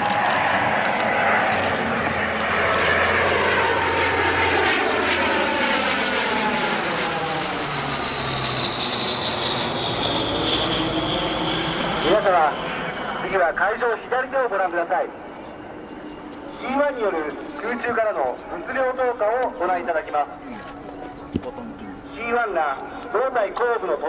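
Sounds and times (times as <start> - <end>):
aircraft engines flying past: 0.0 - 24.0
high engine whine: 0.0 - 24.0.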